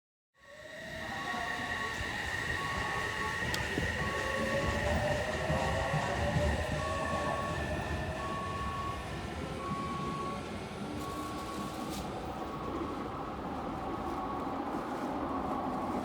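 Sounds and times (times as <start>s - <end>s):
electric train rumble and motor whine: 0.4s - 16.0s.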